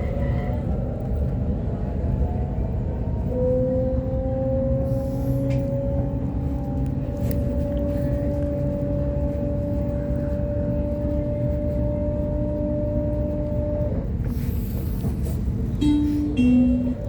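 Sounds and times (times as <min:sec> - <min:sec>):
wheels rumbling on track: 0:00.0 - 0:17.0.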